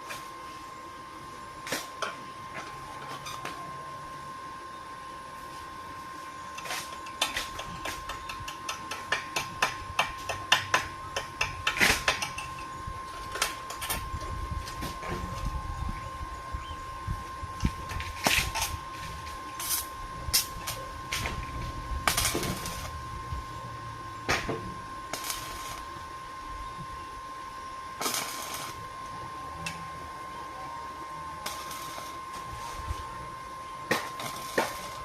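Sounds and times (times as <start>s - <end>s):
arc welding crackling: 0.0s - 35.0s
steady high whine: 0.0s - 35.0s.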